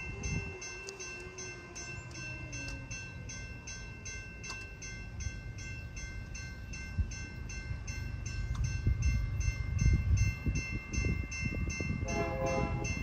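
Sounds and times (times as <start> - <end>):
crossing warning bell ringing: 0.0 - 13.0.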